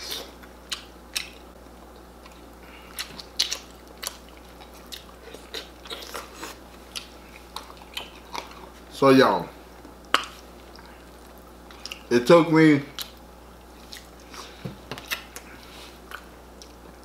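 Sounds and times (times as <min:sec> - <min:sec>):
wet chewing and lip smacks: 0:00.1 - 0:08.8, 0:09.8 - 0:12.1, 0:12.9 - 0:16.8.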